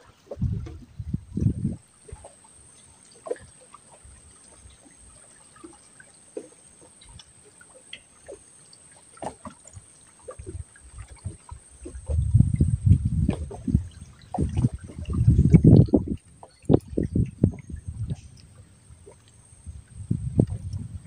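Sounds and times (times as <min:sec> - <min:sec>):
small drips and clicks: 0:00.0 - 0:21.0
water trickling and lapping: 0:00.0 - 0:21.0.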